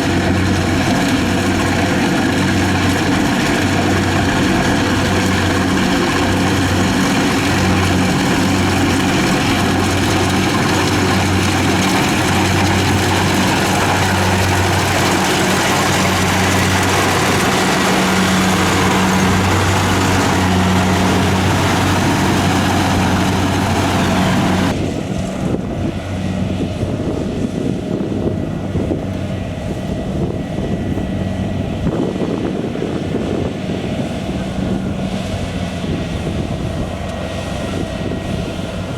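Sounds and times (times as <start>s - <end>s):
harvester engine humming: 0.0s - 38.9s.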